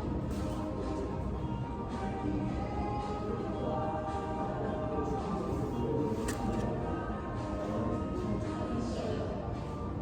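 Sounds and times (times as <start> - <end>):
cafe background music: 0.0 - 10.0.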